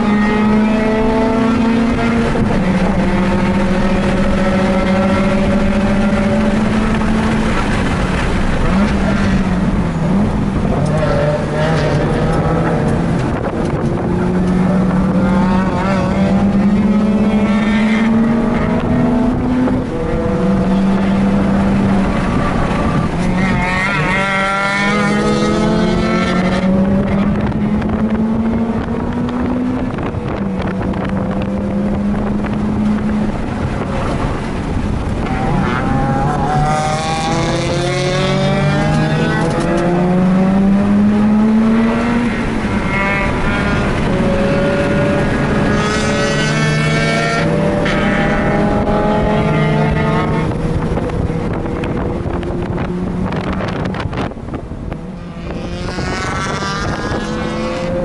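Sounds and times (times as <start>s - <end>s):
rotary engine revving hard: 0.0s - 58.0s
wind noise on microphone: 0.0s - 58.0s.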